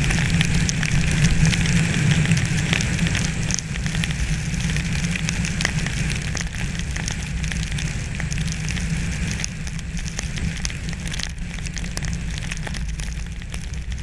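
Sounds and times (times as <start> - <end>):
icy rain pattering: 0.0 - 14.0
wind rumbling on microphone: 0.0 - 14.0.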